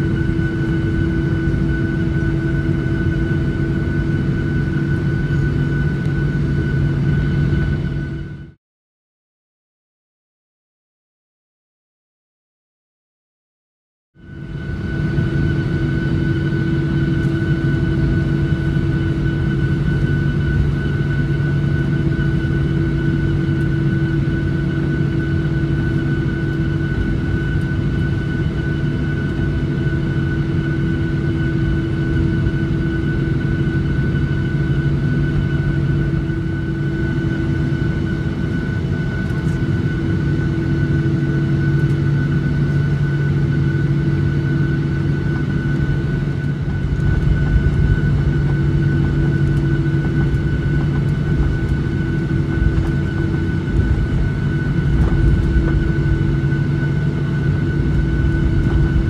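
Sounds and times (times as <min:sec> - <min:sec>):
jet engines rumbling and whining: 0:00.0 - 0:08.6, 0:14.2 - 0:59.0.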